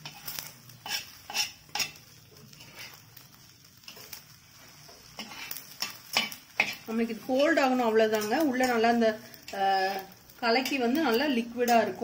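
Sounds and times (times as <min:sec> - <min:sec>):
faint sizzle: 0:00.0 - 0:12.0
metal spatula scraping griddle: 0:00.0 - 0:12.0.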